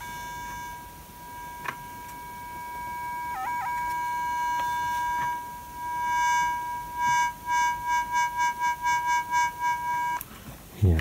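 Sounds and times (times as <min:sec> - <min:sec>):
synthesizer high note pulsing: 0:00.0 - 0:10.2.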